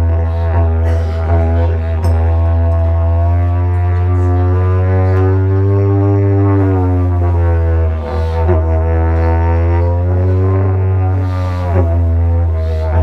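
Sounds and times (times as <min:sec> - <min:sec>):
didjeridu drone: 0:00.0 - 0:13.0.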